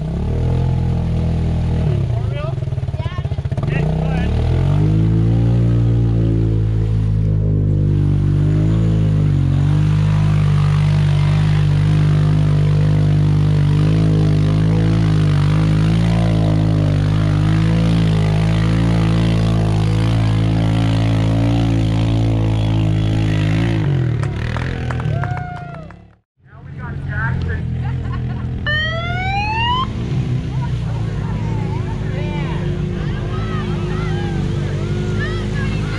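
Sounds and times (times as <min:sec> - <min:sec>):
off-road engine at high revs: 0:00.0 - 0:35.9.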